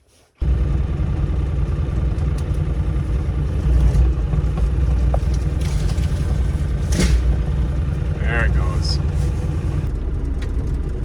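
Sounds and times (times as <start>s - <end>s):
diesel engine rumbling: 0.4s - 11.0s.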